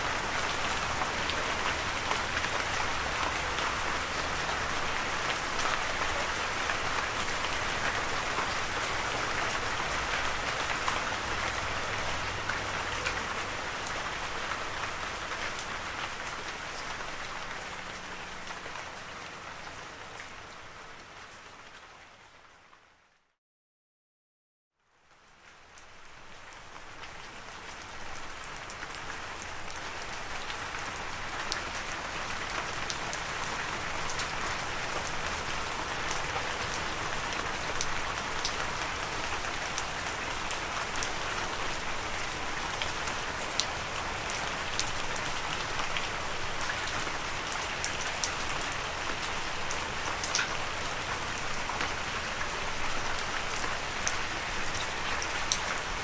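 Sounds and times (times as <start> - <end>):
steady rain: 0.0 - 23.2, 24.8 - 56.0.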